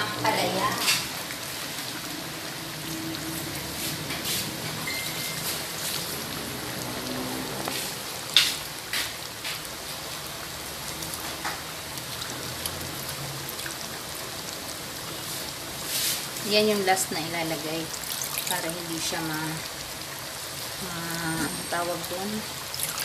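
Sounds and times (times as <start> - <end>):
soup boiling and bubbling: 0.0 - 23.0.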